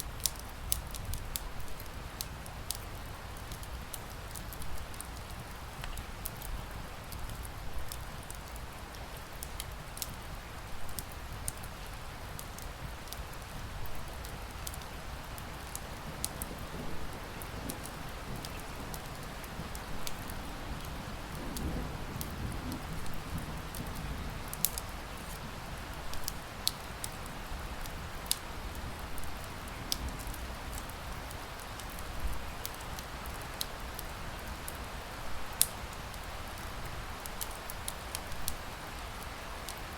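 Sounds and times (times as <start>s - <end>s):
rain pattering: 0.0s - 39.9s
wood fire crackling: 0.0s - 39.9s.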